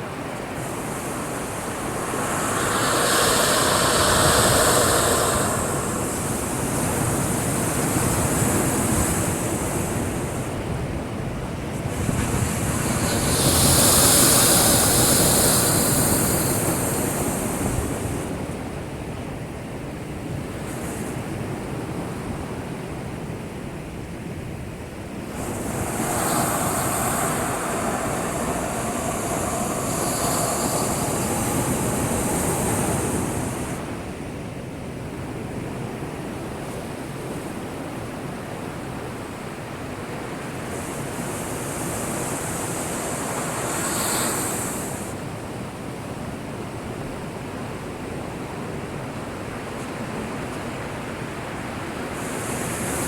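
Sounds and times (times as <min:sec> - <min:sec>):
heavy surf waves breaking: 0:00.0 - 0:53.0.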